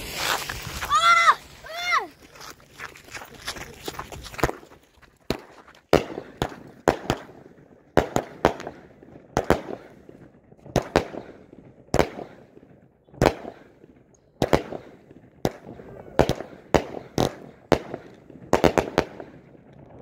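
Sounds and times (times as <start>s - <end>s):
fireworks banging with echo: 3.4s - 20.0s.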